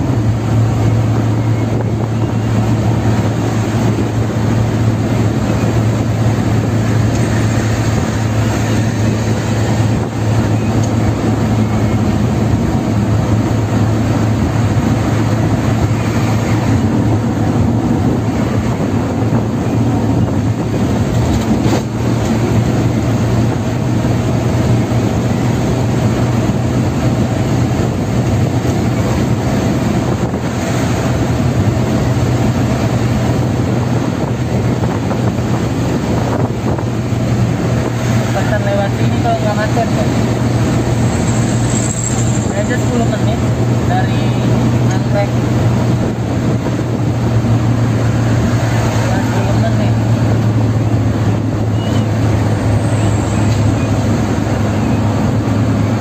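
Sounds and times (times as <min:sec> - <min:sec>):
car cabin road and engine drone: 0:00.0 - 0:56.0
constant low hum: 0:00.0 - 0:56.0.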